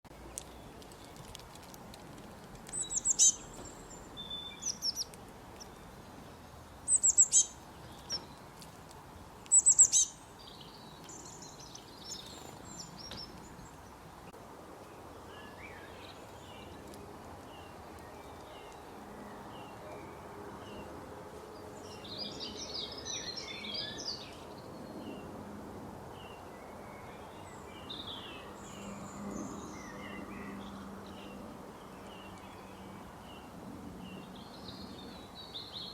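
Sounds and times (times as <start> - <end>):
small birds chirping: 0.1 - 25.3, 26.2 - 35.9.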